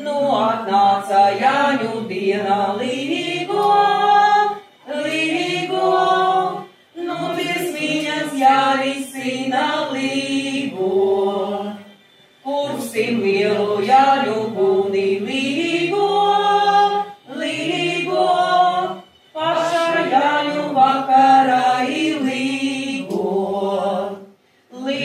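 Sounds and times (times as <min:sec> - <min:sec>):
group singing unaccompanied: 0:00.0 - 0:25.0.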